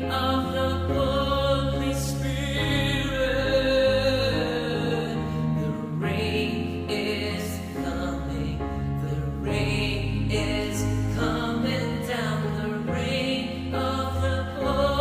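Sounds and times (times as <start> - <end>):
choir-like singing: 0.0 - 15.0.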